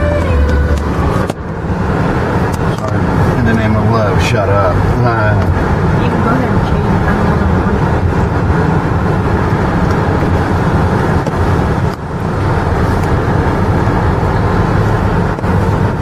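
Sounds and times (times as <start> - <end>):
car engine rumble from inside: 0.0 - 16.0.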